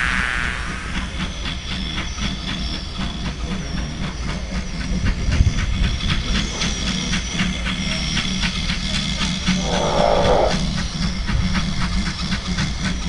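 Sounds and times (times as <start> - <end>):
steam locomotive hissing in rapid pulses: 0.9 - 13.0.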